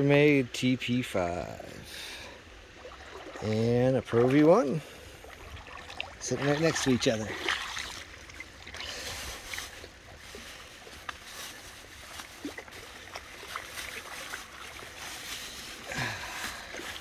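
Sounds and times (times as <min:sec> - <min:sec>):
creek water trickling: 0:00.1 - 0:17.0.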